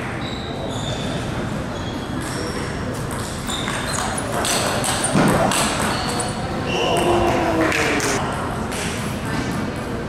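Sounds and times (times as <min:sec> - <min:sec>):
table tennis hall room noise: 0:00.0 - 0:10.0.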